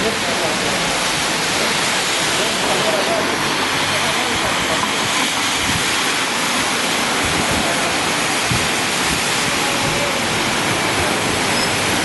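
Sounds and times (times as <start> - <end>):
falling rain: 0.0 - 12.0
tyres hissing on wet road: 0.0 - 12.0.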